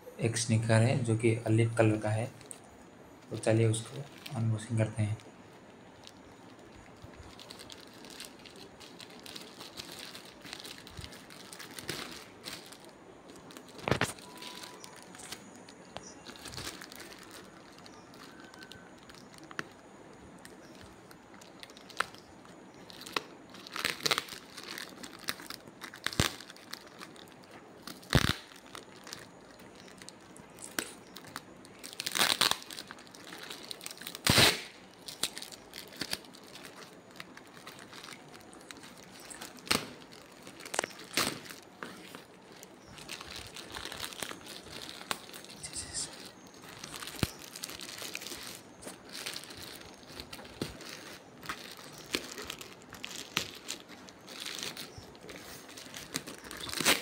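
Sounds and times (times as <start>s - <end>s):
packaging crinkling and rustling: 0.3s - 57.0s
packaging tearing: 6.0s - 19.8s, 20.4s - 57.0s.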